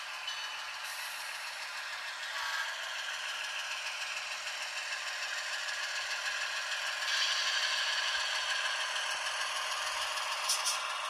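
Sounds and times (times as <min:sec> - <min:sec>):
model train wheels rattling on rail: 0:00.1 - 0:11.0.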